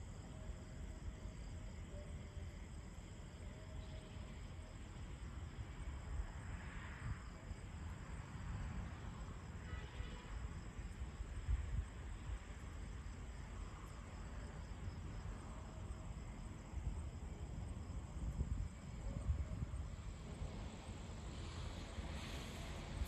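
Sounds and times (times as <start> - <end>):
faint insect chirping: 0.0 - 23.0.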